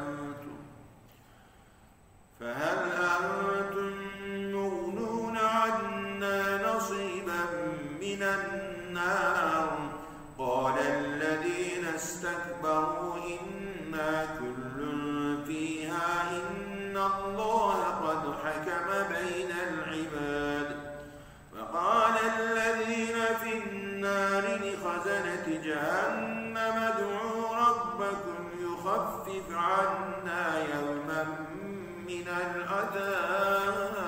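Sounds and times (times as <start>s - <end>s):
man chanting: 0.0s - 0.8s, 2.4s - 34.0s.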